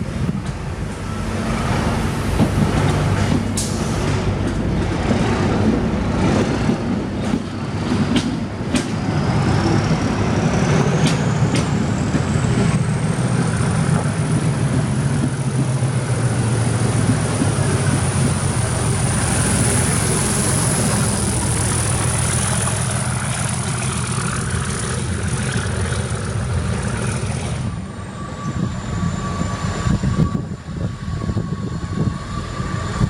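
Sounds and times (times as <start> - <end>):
diesel locomotive engine working hard: 0.0 - 33.0.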